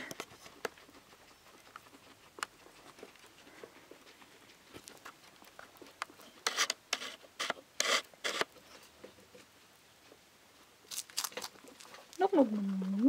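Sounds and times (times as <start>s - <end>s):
faint chewing and rustling: 0.0s - 13.0s
guinea pigs crunching: 0.0s - 13.0s.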